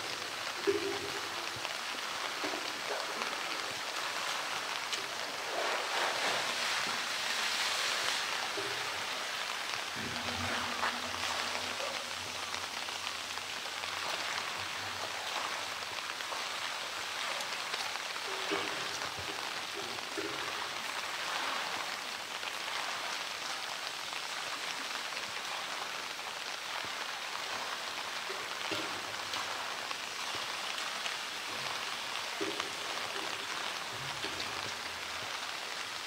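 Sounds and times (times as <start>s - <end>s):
rain falling on rock and water: 0.0s - 36.0s.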